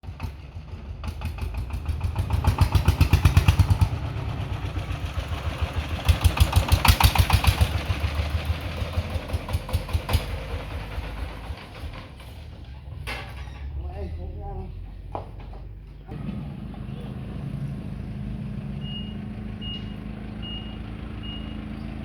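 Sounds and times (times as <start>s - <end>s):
tractor engine chugging: 0.0s - 13.5s, 15.8s - 22.0s.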